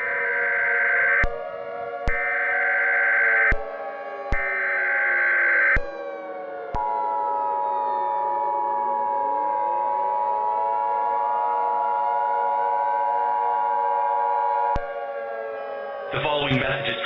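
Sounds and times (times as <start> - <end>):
wailing siren: 0.0 - 17.0.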